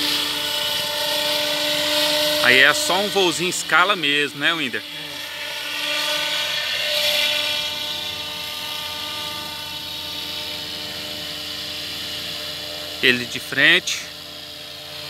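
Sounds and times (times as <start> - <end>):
model helicopter motor whine: 0.0 - 15.0
rotor blades whooshing: 0.0 - 15.0.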